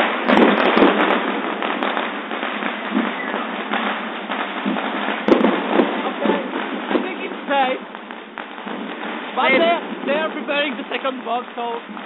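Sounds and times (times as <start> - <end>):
fireworks crackling: 0.0 - 12.0
sharp firework bangs: 0.0 - 12.0.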